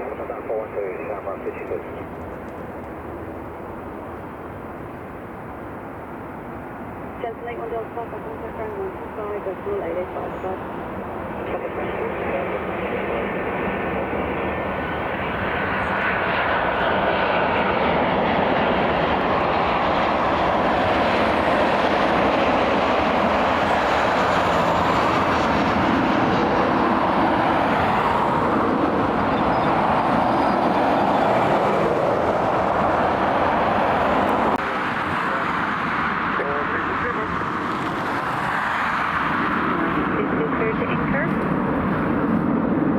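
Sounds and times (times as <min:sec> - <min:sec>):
airliner engines: 0:00.0 - 0:42.9.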